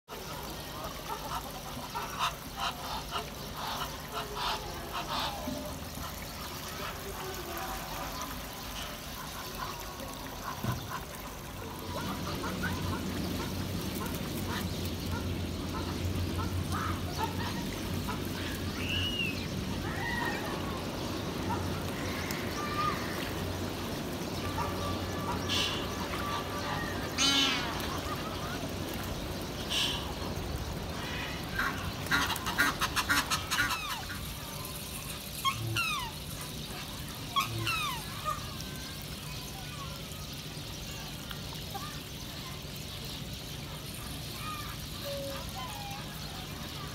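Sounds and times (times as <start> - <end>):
water trickling and sloshing: 0.0 - 46.9
swan splashing: 0.1 - 46.9.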